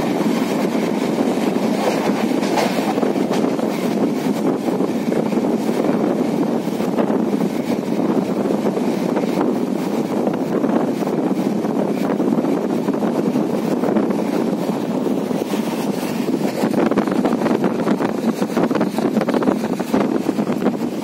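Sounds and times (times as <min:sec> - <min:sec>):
train clattering over bridge: 0:00.0 - 0:21.0
train wheels rumbling on track: 0:00.0 - 0:21.0
wind on microphone: 0:00.0 - 0:21.0.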